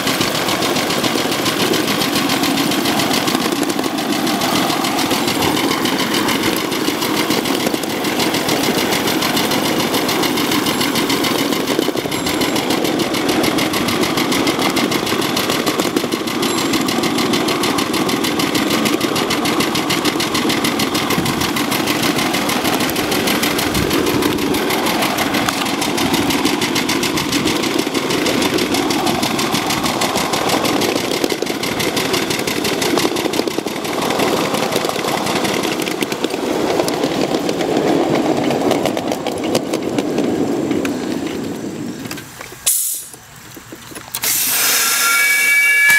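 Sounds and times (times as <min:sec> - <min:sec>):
steam locomotive chuffing: 0:00.0 - 0:45.9.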